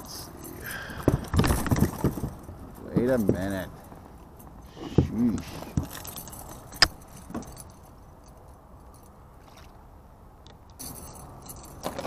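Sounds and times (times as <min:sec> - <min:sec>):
metal chain stringer jingling: 0:00.0 - 0:09.2, 0:10.8 - 0:12.0
faint background noise: 0:00.0 - 0:12.0.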